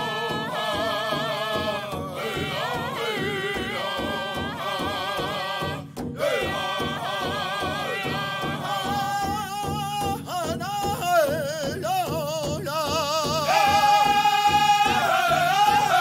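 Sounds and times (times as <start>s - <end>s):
music with steady beat: 0.0s - 16.0s.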